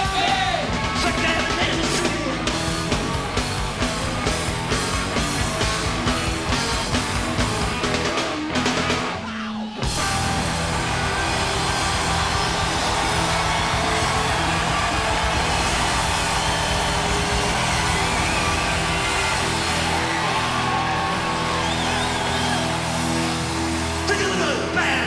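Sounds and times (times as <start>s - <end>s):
drum kit pounding: 0.0s - 9.2s, 9.8s - 24.3s
distorted electric guitar: 0.0s - 25.0s
live punk metal band: 0.0s - 25.0s.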